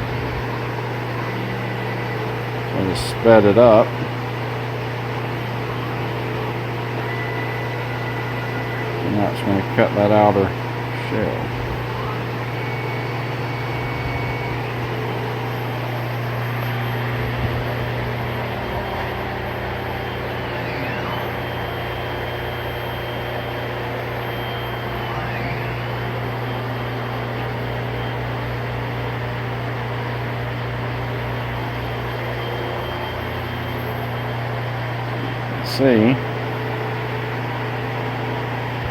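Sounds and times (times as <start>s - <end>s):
motors whining: 0.0s - 38.9s
steady low hum: 0.0s - 38.9s.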